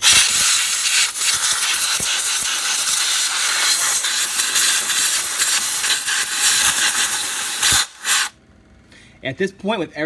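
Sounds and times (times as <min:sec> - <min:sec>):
compressed air hissing: 0:00.0 - 0:08.3.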